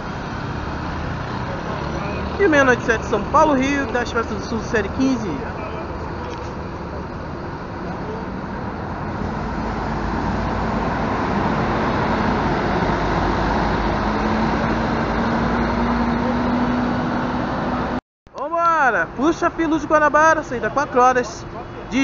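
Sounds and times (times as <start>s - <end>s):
coach engine passing: 0.0s - 18.0s
street traffic: 0.0s - 22.0s.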